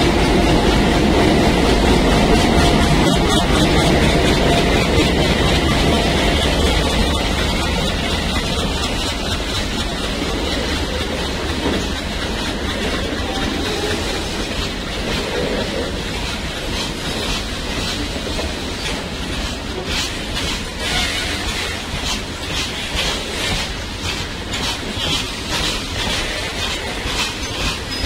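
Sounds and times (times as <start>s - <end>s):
train wheels clattering over rail joints: 0.0s - 28.0s.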